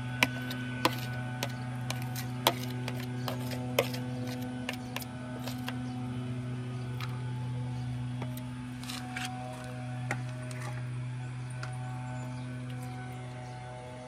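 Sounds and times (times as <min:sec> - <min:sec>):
grass cutter engine hum: 0:00.0 - 0:14.0.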